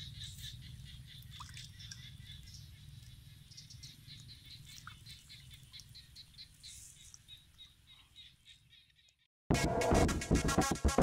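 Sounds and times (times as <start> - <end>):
small birds chirping: 0.0 - 9.3.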